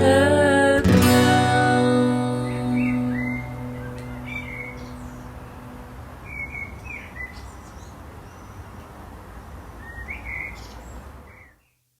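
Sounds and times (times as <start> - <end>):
outdoor background hiss: 0.0 - 12.0
songbirds chirping: 0.8 - 12.0.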